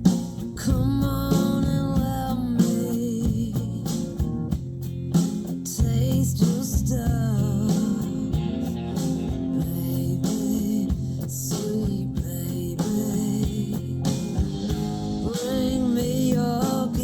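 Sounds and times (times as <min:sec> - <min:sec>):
song with vocal and guitar: 0:00.0 - 0:17.0.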